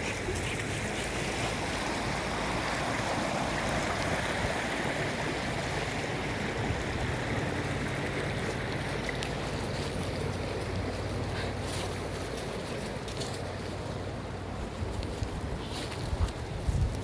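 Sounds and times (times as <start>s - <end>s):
flowing floodwater rushing: 0.0s - 14.8s.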